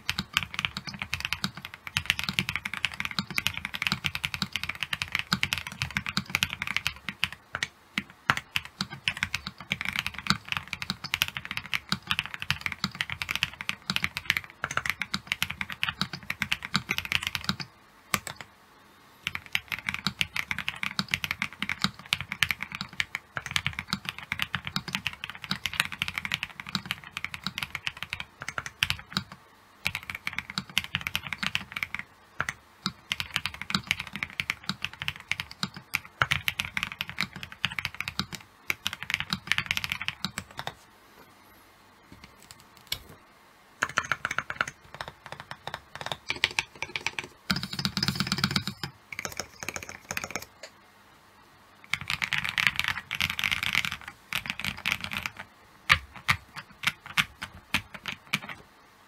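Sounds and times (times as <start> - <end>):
mechanical keyboard typing: 0.0 - 18.5, 19.2 - 40.8, 43.8 - 50.7, 51.9 - 58.6.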